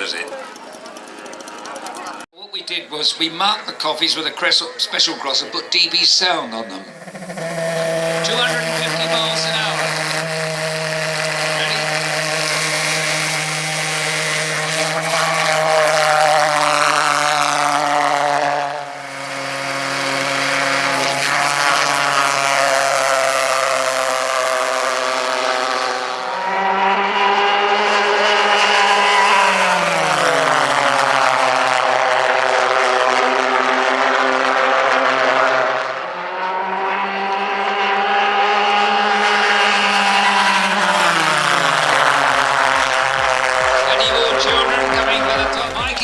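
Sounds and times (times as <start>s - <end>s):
pulse jet engine buzzing drone: 6.4s - 46.0s.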